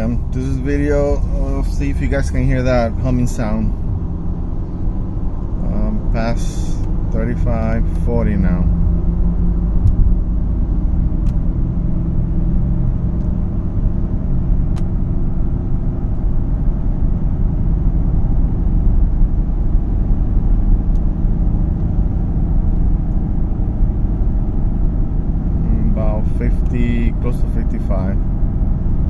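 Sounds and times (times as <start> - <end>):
low cabin hum: 0.0 - 29.0
road rumble: 0.0 - 29.0.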